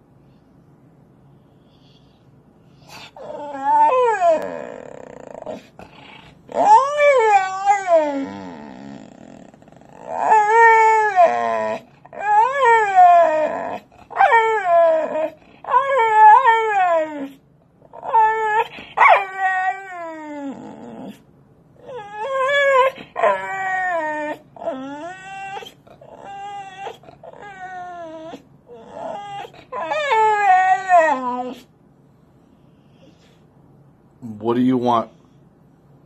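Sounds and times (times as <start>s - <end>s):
dog howling and whining: 2.8s - 31.8s.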